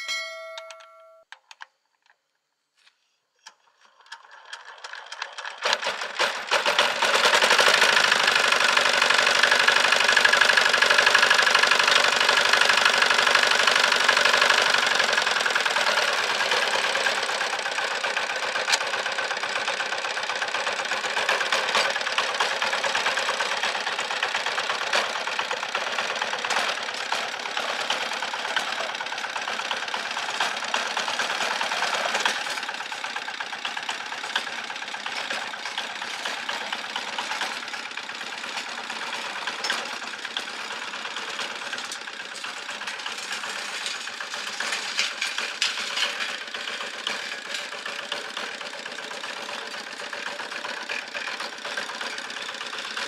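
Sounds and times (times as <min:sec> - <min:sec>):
diesel engine running: 0:07.6 - 0:53.0.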